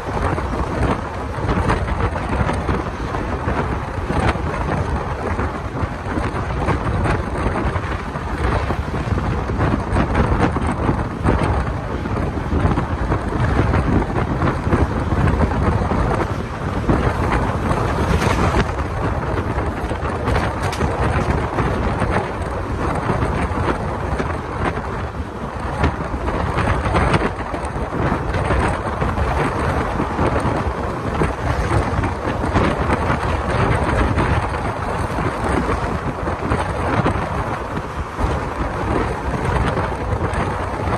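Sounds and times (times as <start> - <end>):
train coach rumbling on track: 0.0 - 40.9
wind rushing over microphone: 0.0 - 40.9.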